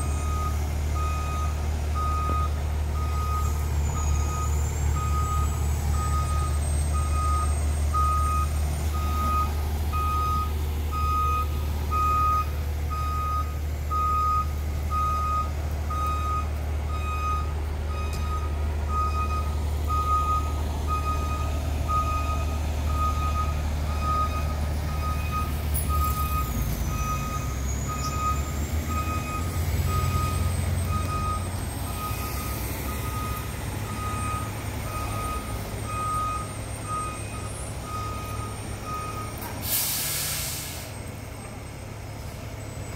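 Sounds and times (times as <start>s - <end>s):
diesel engine running: 0.0s - 42.9s
truck backup alarm beeping: 0.0s - 42.9s.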